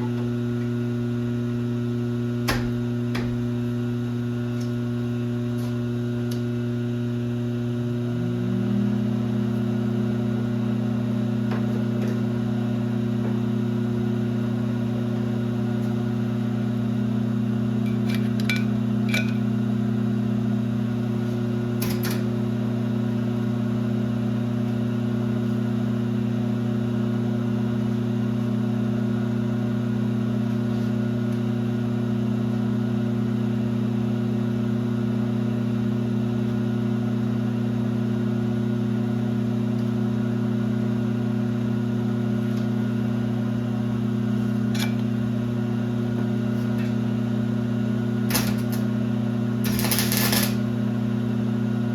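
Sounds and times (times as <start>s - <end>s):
lathe motor and gear hum: 0.0s - 51.9s.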